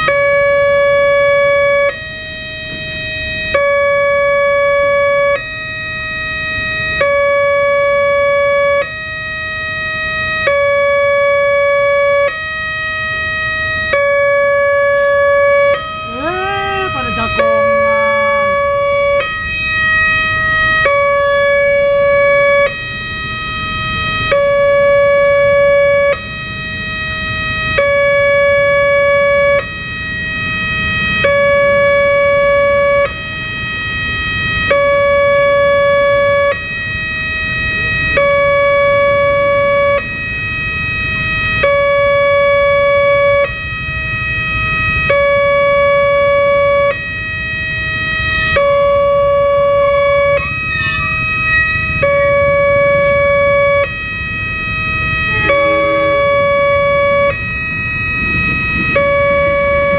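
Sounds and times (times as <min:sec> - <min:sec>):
level-crossing two-tone warning siren: 0:00.0 - 0:59.9.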